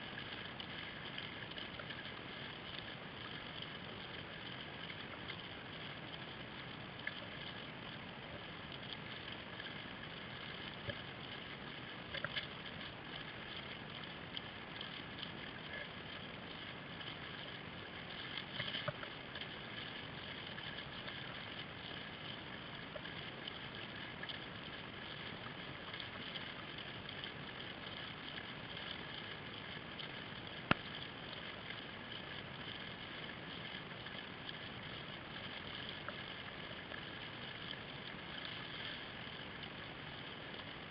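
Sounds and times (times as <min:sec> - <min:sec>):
water rushing along kayak hull: 0:00.0 - 0:40.9.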